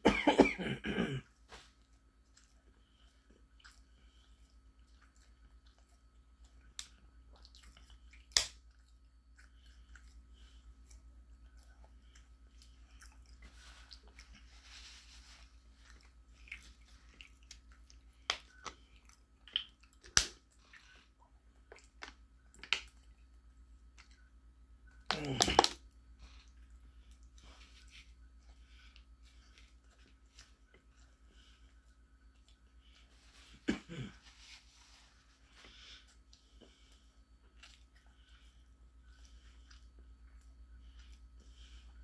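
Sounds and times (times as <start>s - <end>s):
person chewing sandwich: 1.5s - 42.0s.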